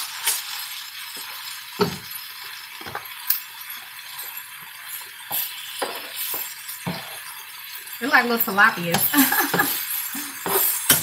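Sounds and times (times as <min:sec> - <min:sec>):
chicken sizzling in frying pan: 0:00.0 - 0:11.0.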